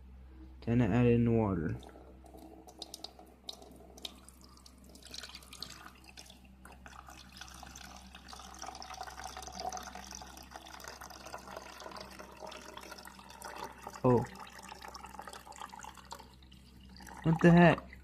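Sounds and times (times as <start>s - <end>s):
water trickling into tank: 1.6s - 18.0s.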